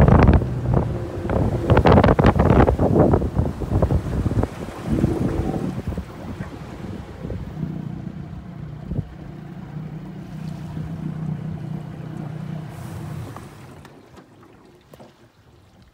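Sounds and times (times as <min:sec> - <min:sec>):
outboard motor humming: 0:00.0 - 0:15.9.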